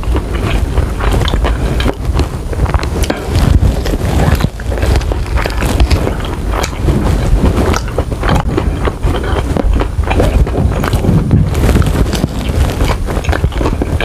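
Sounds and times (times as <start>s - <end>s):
biting and chewing: 0.0s - 14.0s
steady low rumble: 0.0s - 14.0s.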